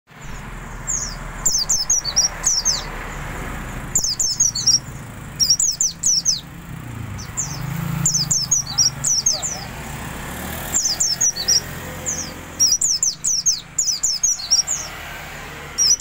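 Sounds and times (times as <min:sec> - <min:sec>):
low traffic hum: 0:00.1 - 0:16.0
small bird twittering song: 0:00.1 - 0:16.0.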